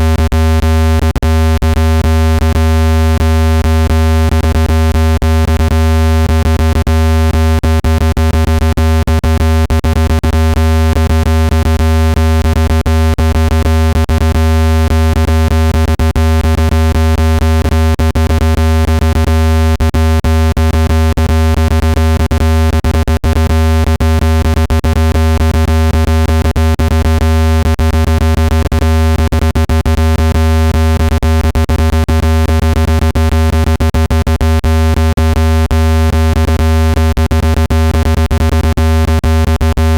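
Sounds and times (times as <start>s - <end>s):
loud low buzz tone: 0.0s - 39.9s.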